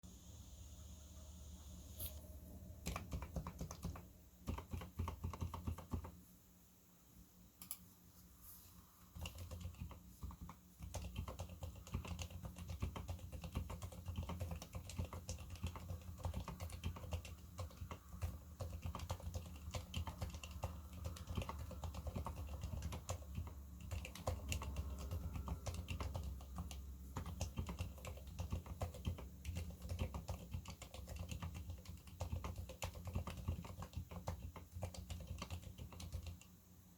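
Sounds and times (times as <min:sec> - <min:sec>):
keyboard typing muted clacks: 0:02.8 - 0:06.2, 0:09.1 - 0:36.6.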